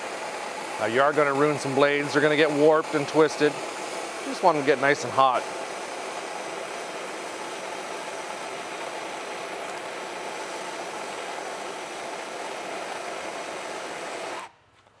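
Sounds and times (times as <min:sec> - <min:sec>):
gas torch hissing: 0:00.0 - 0:14.5.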